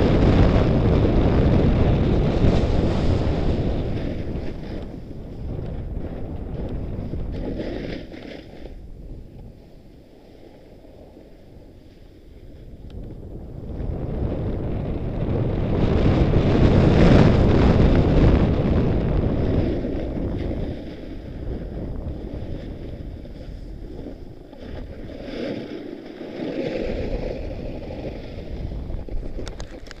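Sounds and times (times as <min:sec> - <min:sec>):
skis sliding on snow: 0:00.0 - 0:12.8, 0:15.0 - 0:30.0
wind rushing over microphone: 0:00.0 - 0:30.0.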